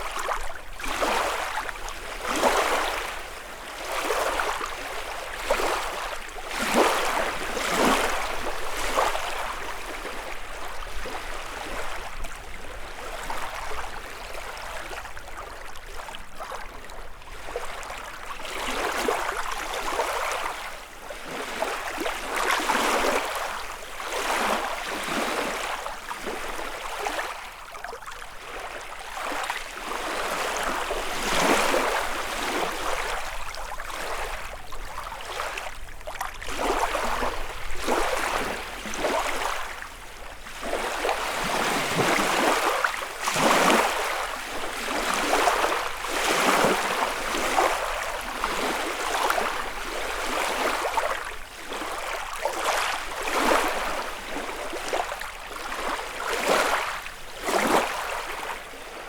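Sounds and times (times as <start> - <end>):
waves lapping against shore: 0.0 - 59.0.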